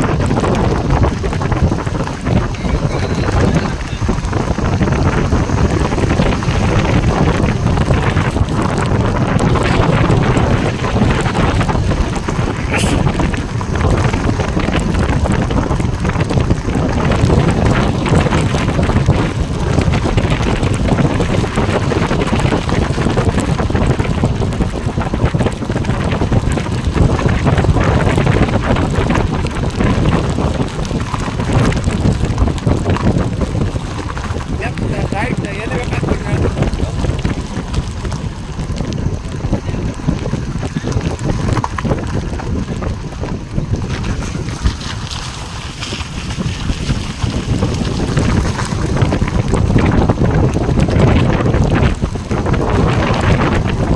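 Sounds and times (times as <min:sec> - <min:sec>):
car road noise: 0:00.0 - 0:53.9
wind buffeting microphone: 0:00.0 - 0:53.9.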